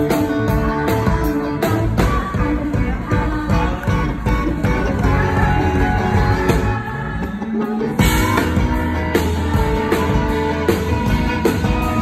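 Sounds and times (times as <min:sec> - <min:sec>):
bass slide: 0:00.0 - 0:12.0
live rock band playing: 0:00.0 - 0:12.0
woman singing: 0:00.0 - 0:12.0.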